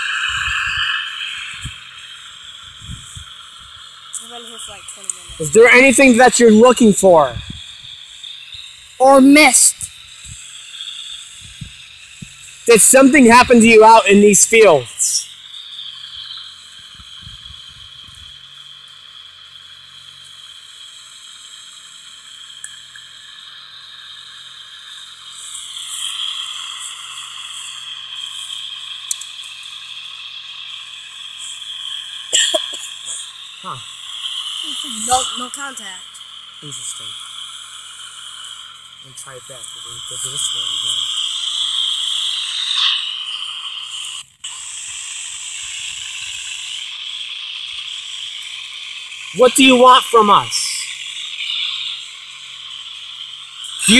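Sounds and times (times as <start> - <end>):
radio static hiss: 0.0 - 18.2, 24.1 - 53.9.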